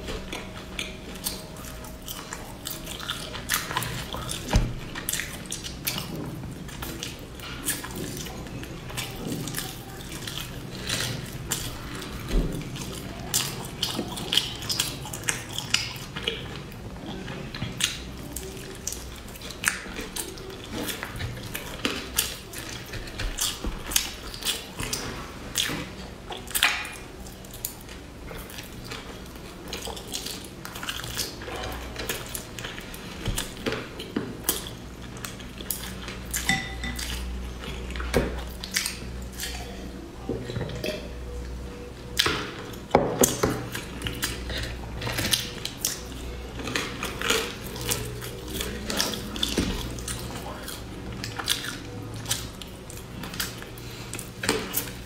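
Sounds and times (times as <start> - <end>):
wet chewing and lip-smacking: 0.0 - 55.0.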